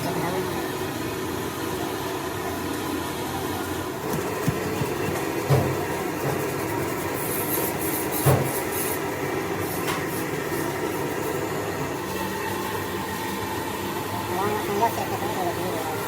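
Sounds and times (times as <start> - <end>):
steady mechanical rumble: 0.0 - 16.0.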